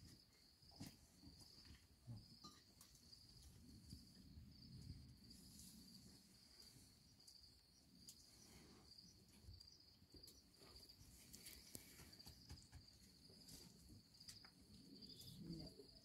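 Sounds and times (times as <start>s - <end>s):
crickets trilling: 0.1s - 16.0s.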